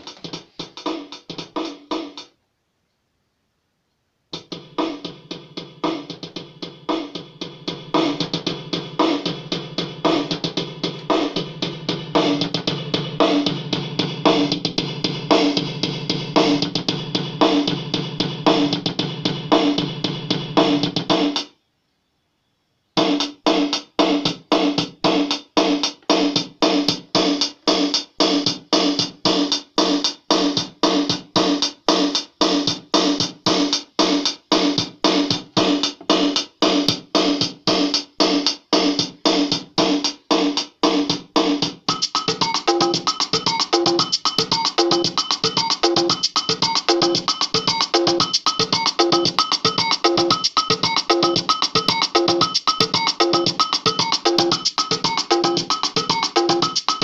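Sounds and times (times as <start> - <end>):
electronic drum rhythm pattern: 0.0 - 2.4, 4.3 - 21.6, 23.0 - 57.0.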